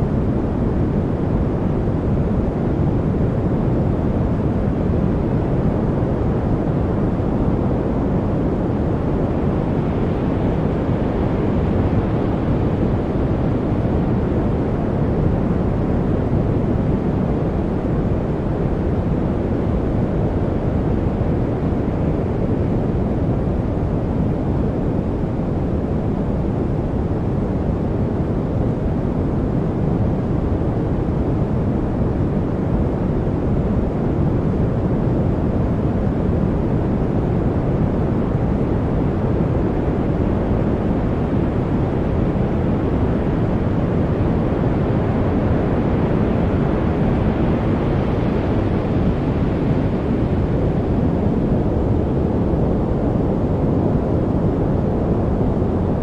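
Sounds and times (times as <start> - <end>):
deep steady noise rush: 0.0 - 56.0.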